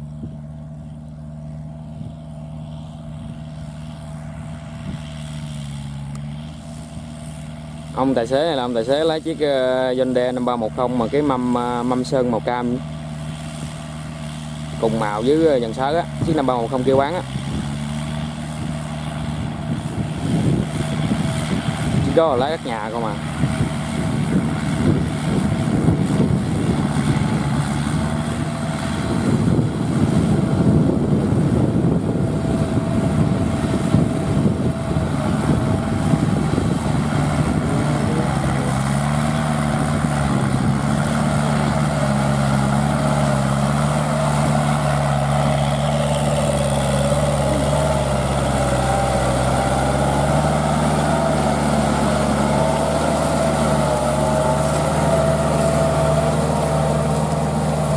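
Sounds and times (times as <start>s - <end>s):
tractor diesel engine under load: 0.0s - 57.9s
rotary tiller: 2.6s - 57.9s.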